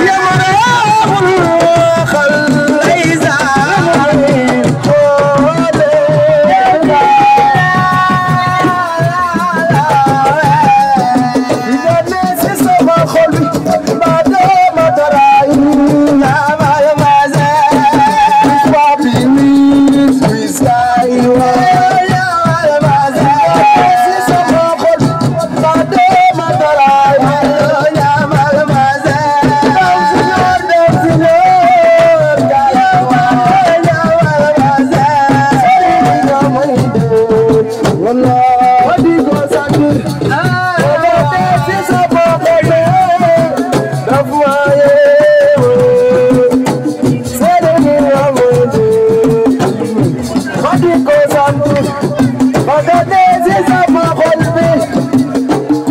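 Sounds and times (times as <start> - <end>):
fast hand-drum percussion: 0.0 - 55.9
person singing: 0.0 - 55.9.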